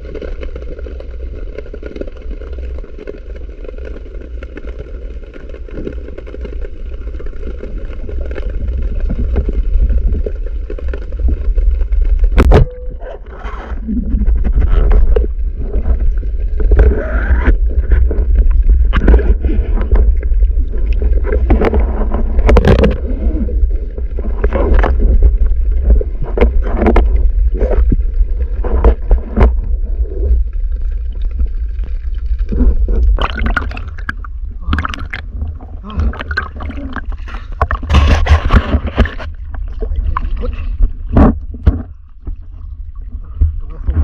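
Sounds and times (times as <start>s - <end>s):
water gurgling and sloshing: 0.0s - 44.0s
knocks and scrapes: 5.5s - 44.0s
low rumble: 6.6s - 44.0s.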